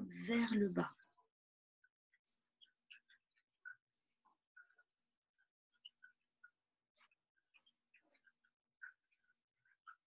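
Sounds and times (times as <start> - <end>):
faint soft clicks and rustles: 0.1 - 10.0.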